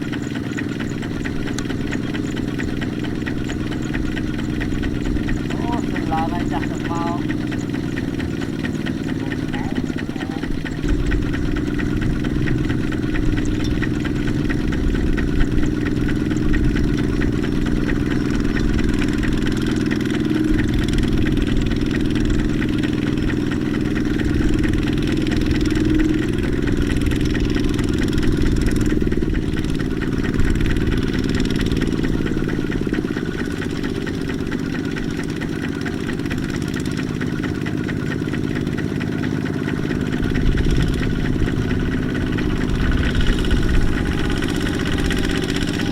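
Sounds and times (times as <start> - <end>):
tractor engine running under load: 0.0 - 45.9.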